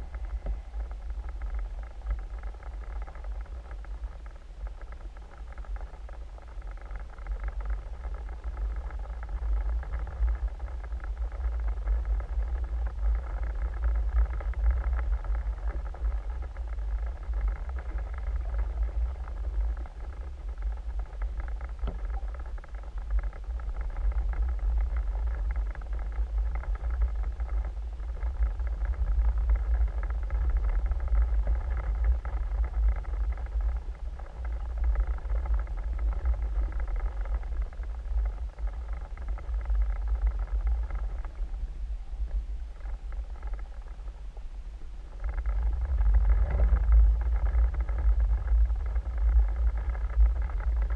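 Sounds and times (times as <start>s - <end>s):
underwater water rumble: 0.0s - 50.9s.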